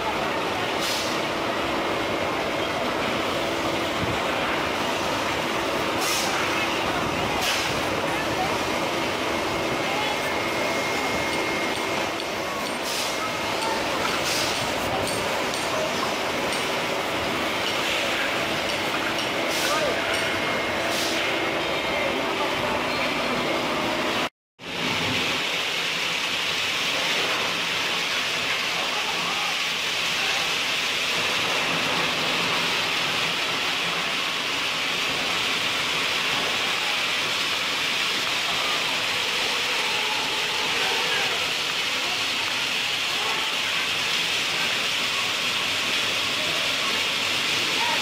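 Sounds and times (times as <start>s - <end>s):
clay-crushing machines running: 0.0s - 48.0s.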